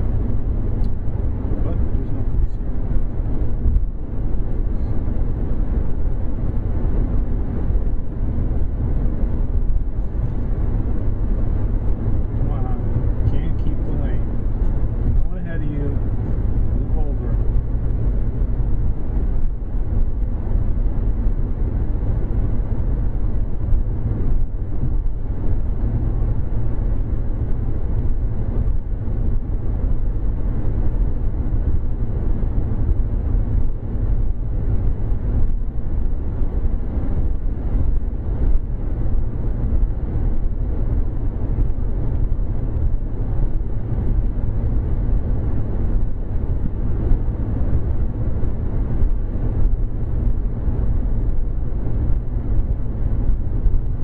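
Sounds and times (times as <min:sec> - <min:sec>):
car interior road drone: 0:00.0 - 0:54.0.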